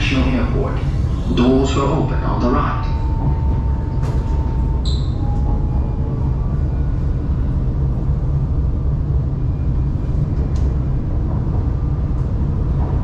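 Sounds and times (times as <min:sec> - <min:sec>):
train low rumble from aboard: 0:00.0 - 0:13.0.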